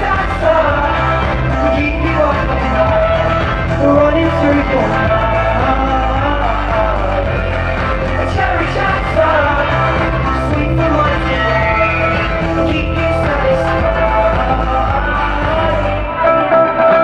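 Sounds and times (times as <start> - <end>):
men singing into microphones: 0.0 - 17.0
pop track with bass beat: 0.0 - 17.0.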